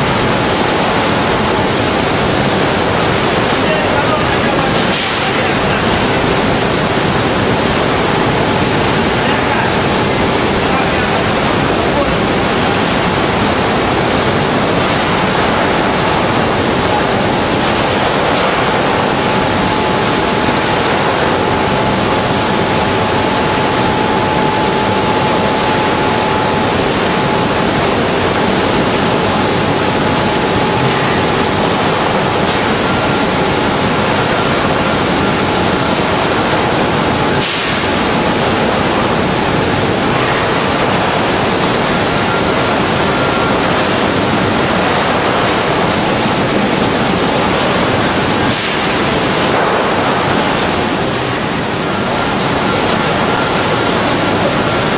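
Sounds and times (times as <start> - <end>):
faint steady whine: 0.0 - 54.9
loud industrial rushing noise: 0.0 - 54.9.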